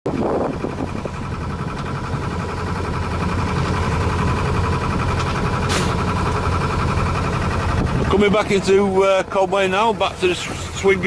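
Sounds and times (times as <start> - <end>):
boat engine running: 0.1 - 11.0.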